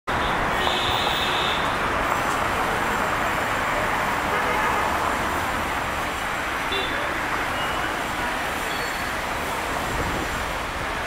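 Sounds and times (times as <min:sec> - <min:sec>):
cars driving past: 0:00.2 - 0:11.0.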